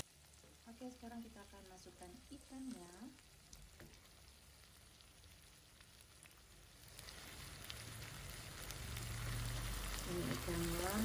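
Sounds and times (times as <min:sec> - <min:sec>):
light crackles of frying: 0:00.0 - 0:11.0
vegetables sizzling in a wok: 0:00.0 - 0:11.0.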